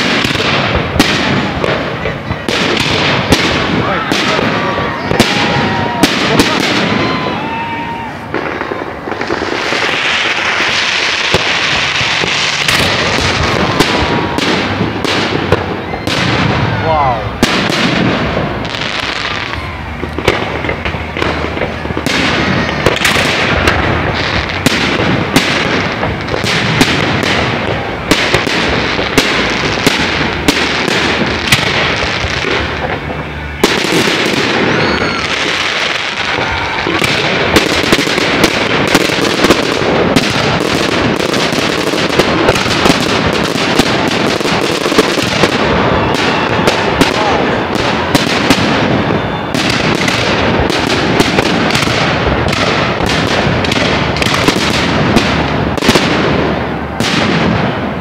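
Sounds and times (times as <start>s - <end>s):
fireworks crackling: 0.0s - 58.0s
fireworks shells bursting: 0.0s - 58.0s.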